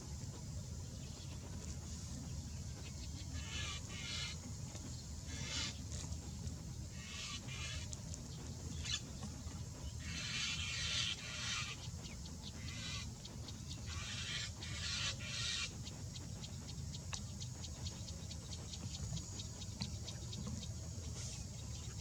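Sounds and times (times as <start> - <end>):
low background rumble: 0.0 - 22.0
birds raspy hissing: 0.4 - 22.0.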